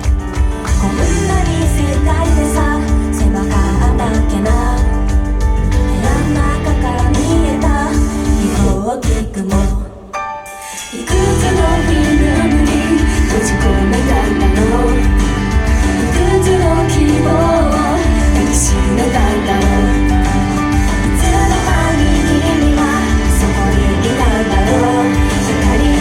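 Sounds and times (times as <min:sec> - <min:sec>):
pop band track: 0:00.0 - 0:26.0
woman singing: 0:00.0 - 0:26.0.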